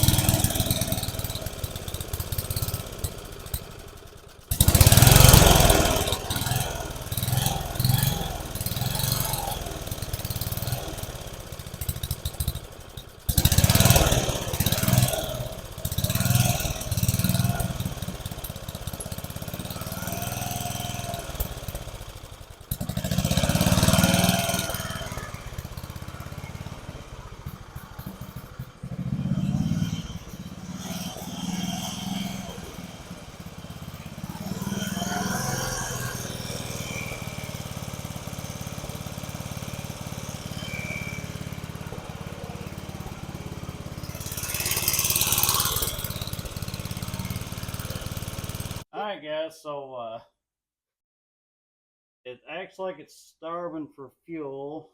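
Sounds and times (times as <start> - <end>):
lawn mower engine running roughly: 0.0 - 48.8.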